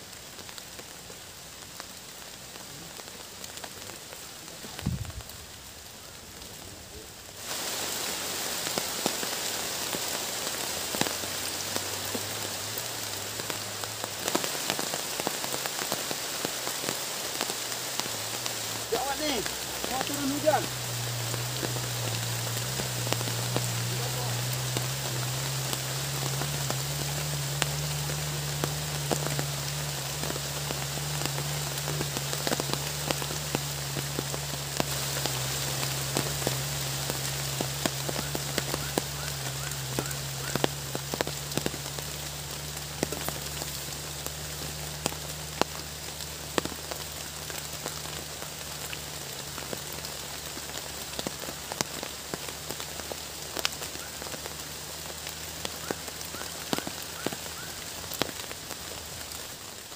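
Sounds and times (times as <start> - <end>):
raindrops tapping on a surface: 0.0 - 59.9
steady rain falling: 0.0 - 59.9.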